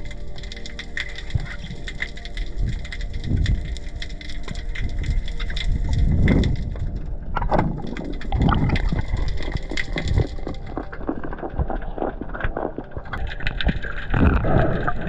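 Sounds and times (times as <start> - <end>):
crackle of tiny clicks underwater: 0.0 - 15.0
diver's bubbles: 1.2 - 15.0.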